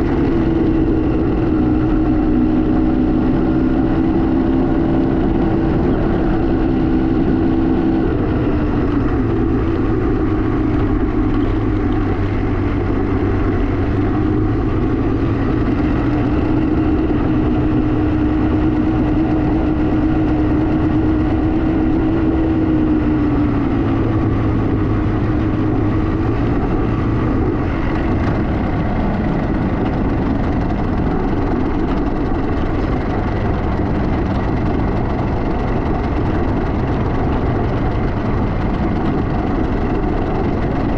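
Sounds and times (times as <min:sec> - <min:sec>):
motorcycle engine running: 0:00.0 - 0:40.9
steady rushing noise: 0:00.0 - 0:40.9.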